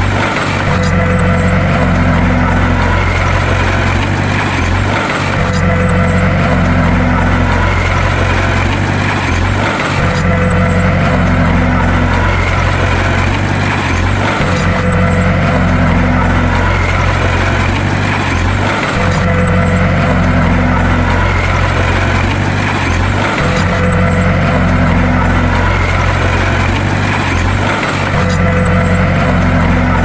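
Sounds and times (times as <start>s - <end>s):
bulldozer diesel engine humming: 0.0s - 30.0s.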